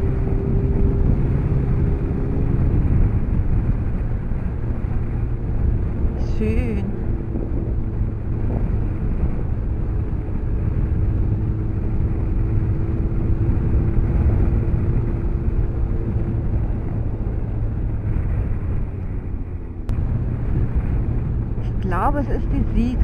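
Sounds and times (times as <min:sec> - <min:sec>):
motorcycle engine drone: 0:00.0 - 0:23.0.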